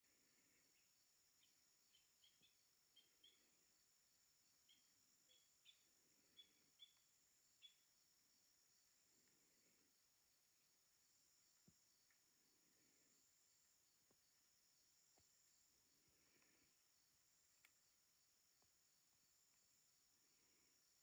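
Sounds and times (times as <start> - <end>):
insect chorus drone: 0.0 - 21.0
short insect chirps: 0.3 - 21.0.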